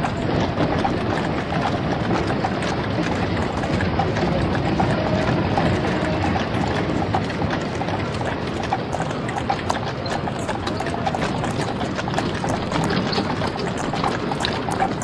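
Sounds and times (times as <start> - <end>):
horse hooves clip-clopping: 0.0 - 15.0
street noise: 0.0 - 15.0.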